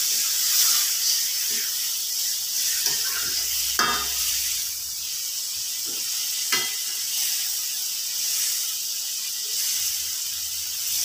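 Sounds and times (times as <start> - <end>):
curry sizzling in a wok: 0.0 - 11.0.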